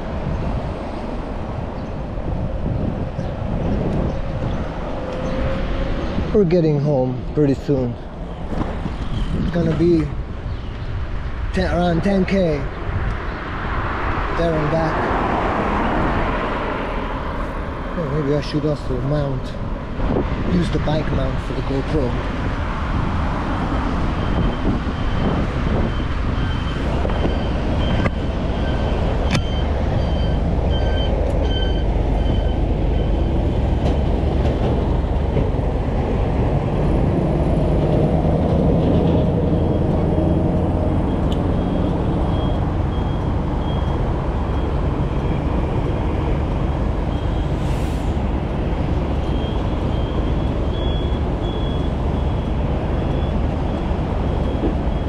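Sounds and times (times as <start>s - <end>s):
wind rumble and road noise: 0.0s - 55.0s.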